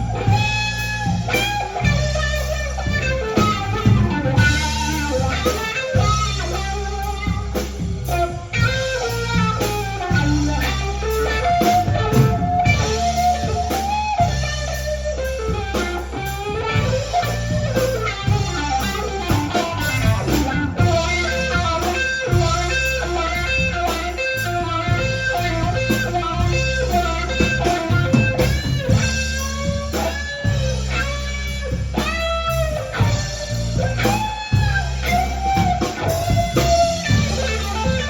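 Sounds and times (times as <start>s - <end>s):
bass guitar: 0.0s - 38.0s
drums: 0.0s - 38.0s
electric guitar lead line: 0.0s - 38.0s.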